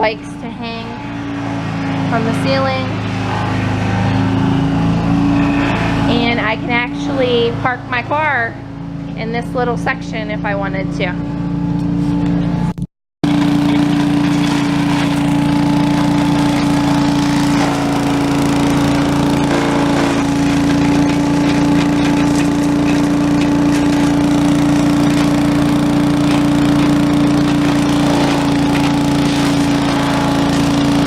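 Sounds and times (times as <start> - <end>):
small gasoline engine running: 0.0 - 9.1, 13.2 - 31.0.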